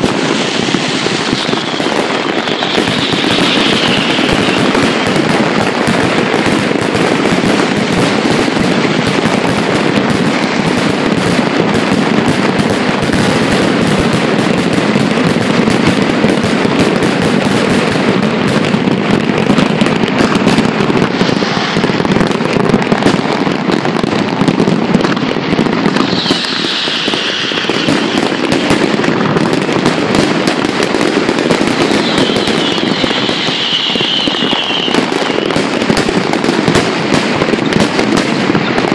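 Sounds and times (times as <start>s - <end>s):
fireworks shells bursting and crackling: 0.0s - 38.9s.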